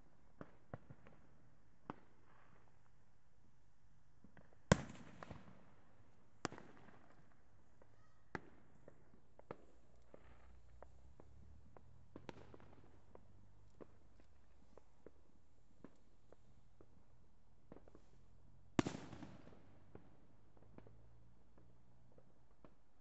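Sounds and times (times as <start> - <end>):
distant fireworks bangs and pops: 0.2 - 2.8, 4.2 - 18.2, 18.8 - 23.0.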